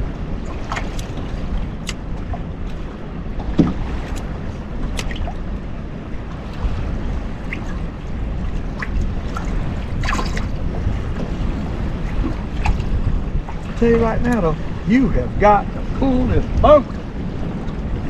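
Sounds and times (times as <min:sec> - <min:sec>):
water lapping at hull: 0:00.0 - 0:18.0
wind rumbling on microphone: 0:00.0 - 0:18.0.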